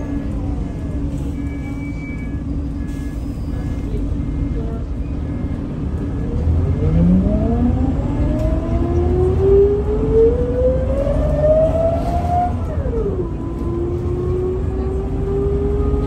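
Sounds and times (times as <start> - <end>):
bus engine and gearbox whine: 0.0 - 16.0.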